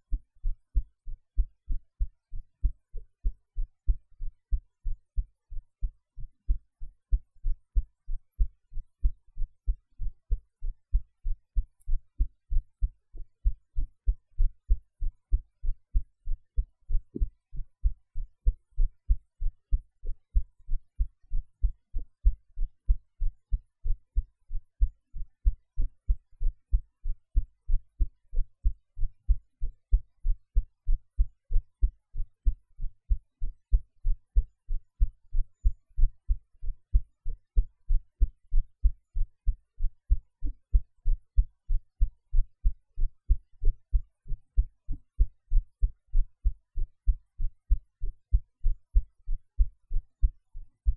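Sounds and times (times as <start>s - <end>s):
heartbeat: 0.0s - 50.9s.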